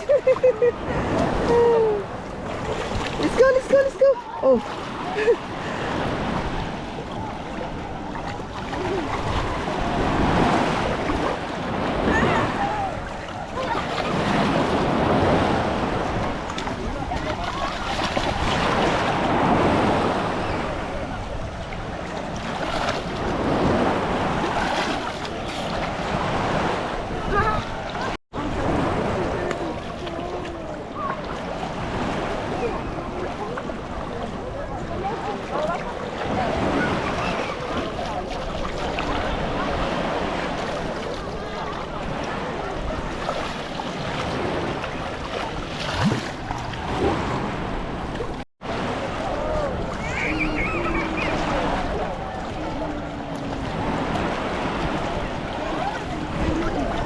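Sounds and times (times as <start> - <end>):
faint voices: 0.0 - 57.0
sea waves washing onto shore: 0.0 - 57.0
wind buffeting the microphone: 0.0 - 57.0.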